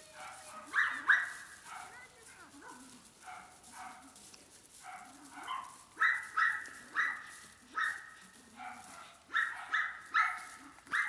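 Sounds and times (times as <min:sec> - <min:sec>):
dog barking: 0:00.1 - 0:04.2, 0:04.8 - 0:11.0.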